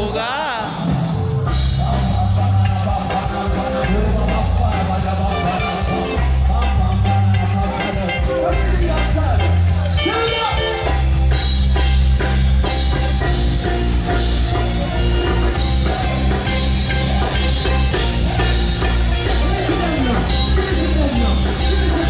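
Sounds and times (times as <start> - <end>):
band music: 0.0 - 22.0
drum kit: 0.0 - 22.0
heavy bass line: 0.0 - 22.0.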